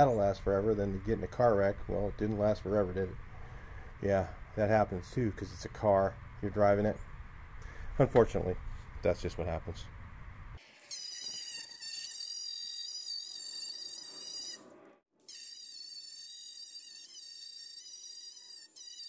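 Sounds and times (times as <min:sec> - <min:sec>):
angle grinder whining: 0:00.0 - 0:09.1, 0:09.8 - 0:14.7, 0:15.3 - 0:19.0.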